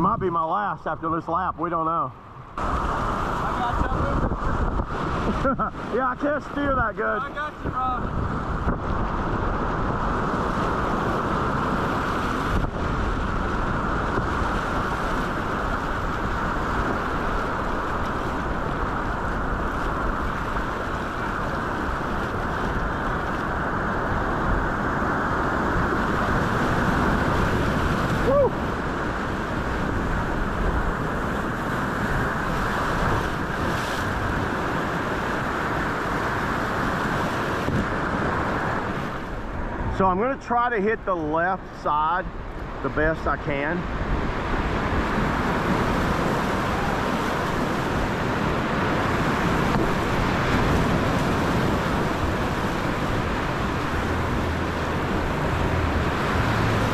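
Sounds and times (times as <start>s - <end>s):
whitewater rushing: 0.0s - 56.9s.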